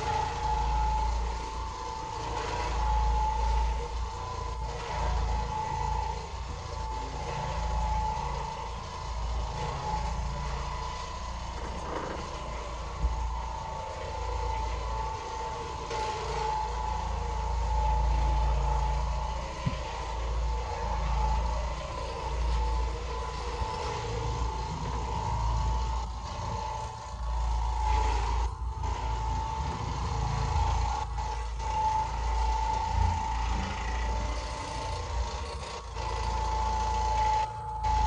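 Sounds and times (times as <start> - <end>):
floor scrubbing machine motor whine: 0.0 - 38.0.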